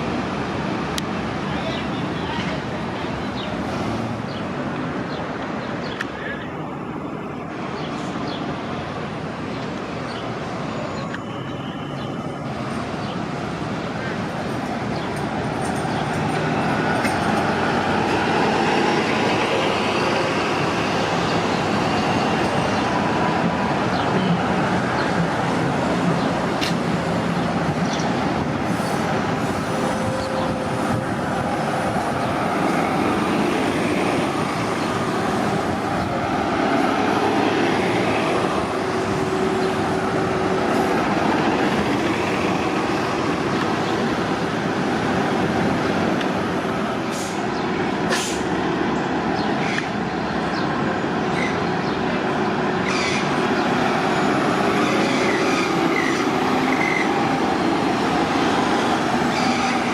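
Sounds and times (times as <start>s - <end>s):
bus engine and traffic rumble: 0.0s - 59.9s.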